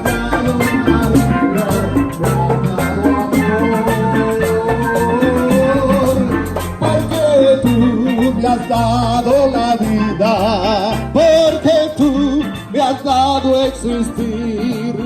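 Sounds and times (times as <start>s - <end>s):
latin band music: 0.0s - 15.0s
person singing with vibrato: 0.0s - 15.0s.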